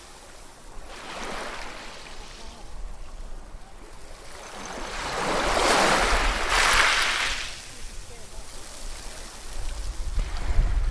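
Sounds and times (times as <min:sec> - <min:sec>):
ocean waves washing ashore: 0:00.0 - 0:10.9.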